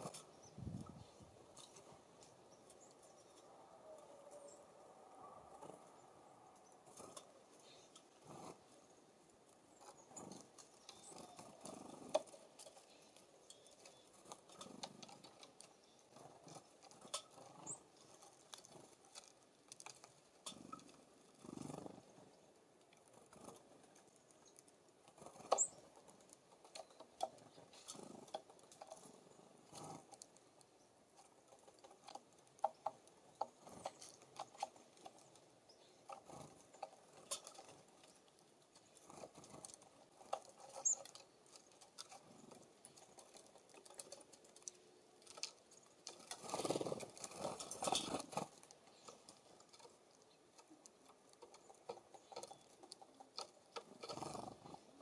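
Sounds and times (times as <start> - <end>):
bird bills tapping on feeders: 5.6 - 55.0.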